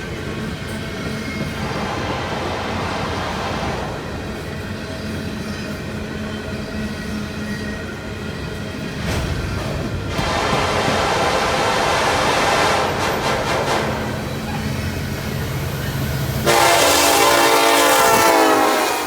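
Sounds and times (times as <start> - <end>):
freight train rumbling and rattling: 0.0 - 19.0.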